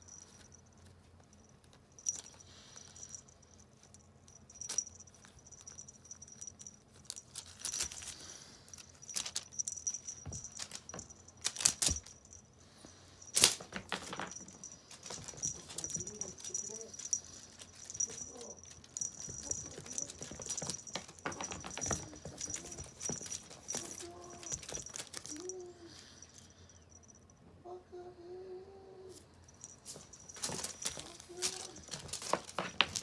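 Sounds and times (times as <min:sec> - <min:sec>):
collar bell jingling: 0:00.0 - 0:27.4, 0:29.1 - 0:33.0.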